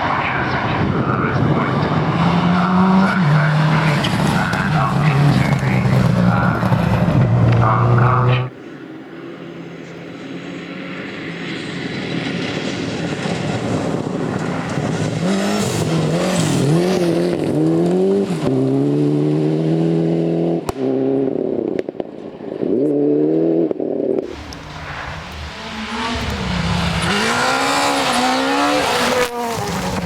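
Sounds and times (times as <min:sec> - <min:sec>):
rally car engine revving: 0:00.0 - 0:08.6, 0:09.4 - 0:30.0.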